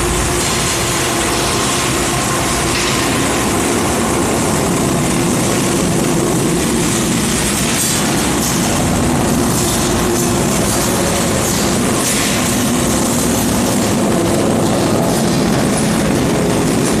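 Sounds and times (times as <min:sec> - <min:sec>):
industrial dryer running: 0:00.0 - 0:17.0.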